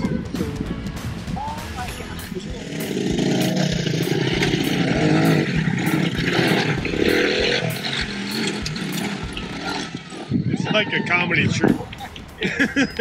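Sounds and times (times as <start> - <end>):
off-road vehicle engines revving: 0.0 - 13.0.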